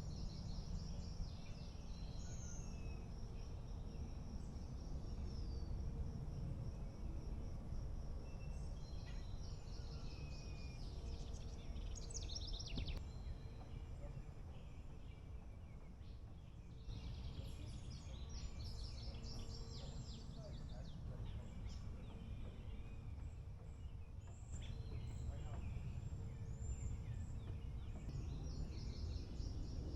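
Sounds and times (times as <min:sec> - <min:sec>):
low rumble of wind: 0:00.0 - 0:29.9
songbirds singing: 0:00.0 - 0:29.9.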